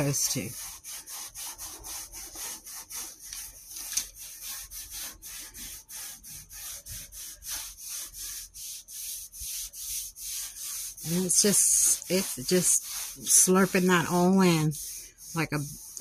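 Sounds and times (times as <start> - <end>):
cloth rubbing on metal: 0.0 - 16.0.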